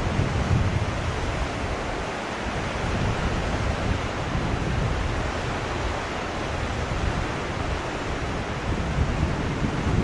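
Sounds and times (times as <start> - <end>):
surf against rocky shore: 0.0 - 10.0
wind buffeting microphone: 0.0 - 10.0.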